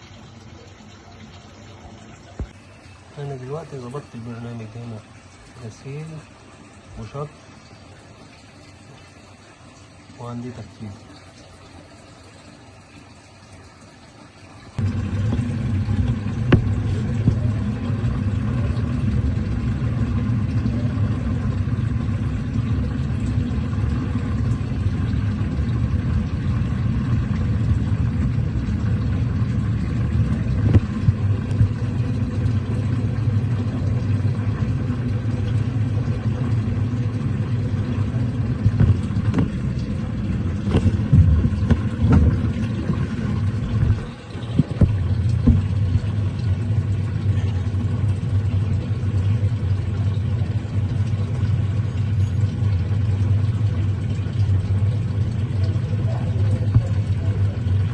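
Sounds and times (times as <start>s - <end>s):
washing machine rumbling: 0.0s - 57.9s.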